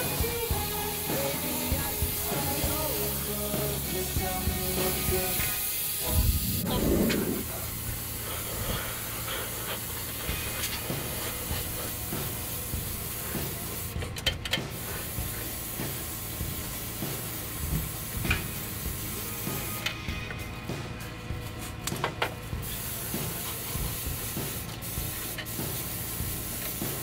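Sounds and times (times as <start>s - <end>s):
air spray gun hissing: 0.0s - 19.9s, 22.6s - 27.0s.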